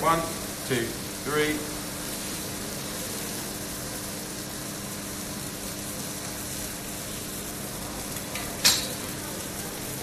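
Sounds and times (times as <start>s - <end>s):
fish sizzling in oil: 0.0s - 10.0s.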